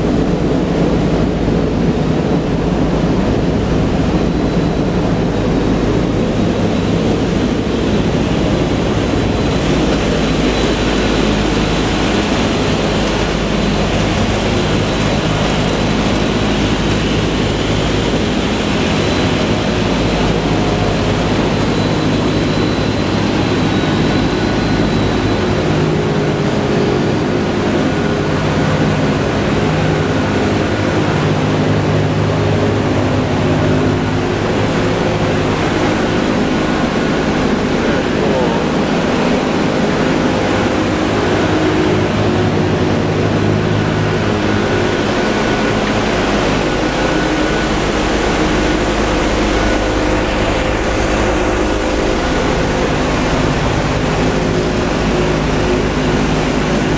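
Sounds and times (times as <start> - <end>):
aircraft engines droning: 0.0 - 56.9
rushing air noise: 0.0 - 56.9.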